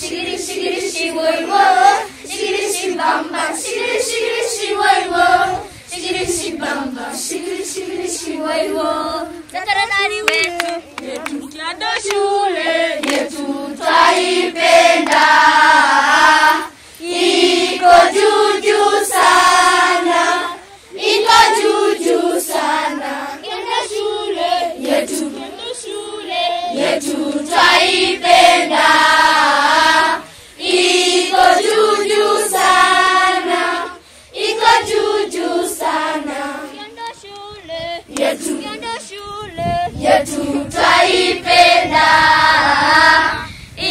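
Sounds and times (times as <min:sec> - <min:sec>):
children's choir singing: 0:00.0 - 0:09.4, 0:10.3 - 0:43.9.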